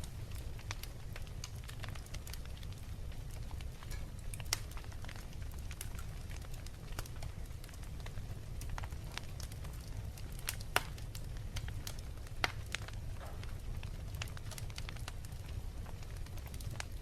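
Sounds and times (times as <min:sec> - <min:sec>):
fire crackling and popping: 0:00.0 - 0:17.0
low rumble of fire: 0:00.0 - 0:17.0.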